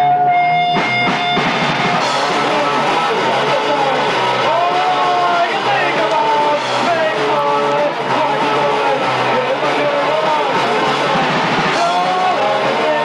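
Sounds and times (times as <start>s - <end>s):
punk rock band playing live: 0.0s - 13.0s.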